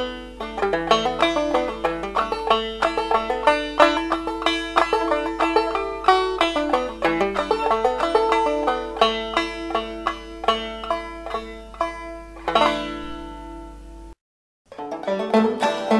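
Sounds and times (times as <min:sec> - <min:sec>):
plucked-string music: 0:00.0 - 0:15.9.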